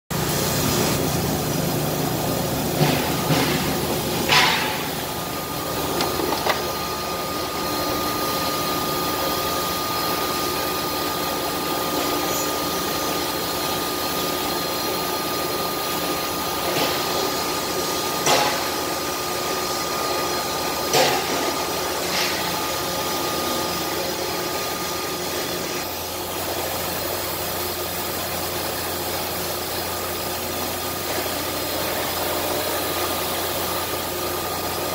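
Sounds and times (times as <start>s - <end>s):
cnc router machine drone: 3.3s - 27.5s, 29.4s - 34.9s.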